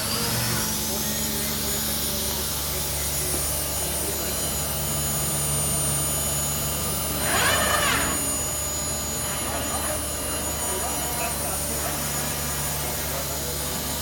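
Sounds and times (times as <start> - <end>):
router machine hum: 0.0 - 14.0.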